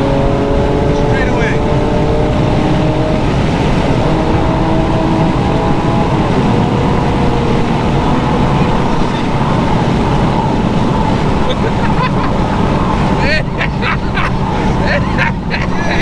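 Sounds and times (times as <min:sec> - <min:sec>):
car engine accelerating: 0:00.0 - 0:16.0
wind rush: 0:00.0 - 0:16.0.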